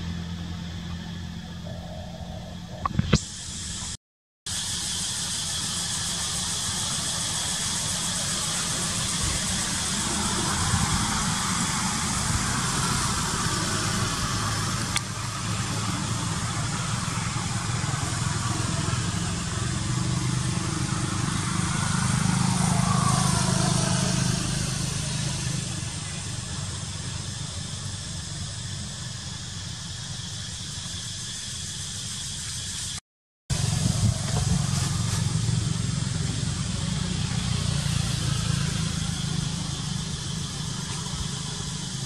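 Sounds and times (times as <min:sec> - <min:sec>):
outdoor background noise: 0:00.0 - 0:42.0.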